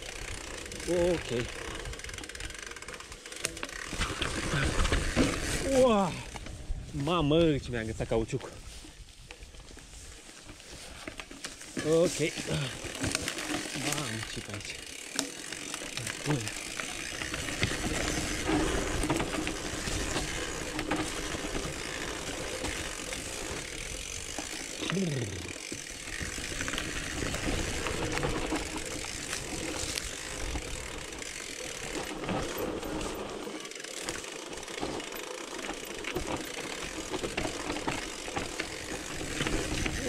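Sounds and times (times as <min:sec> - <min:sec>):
bike clattering and rattling: 0:00.0 - 0:07.5, 0:08.1 - 0:40.0
tyre noise on dirt: 0:03.3 - 0:40.0.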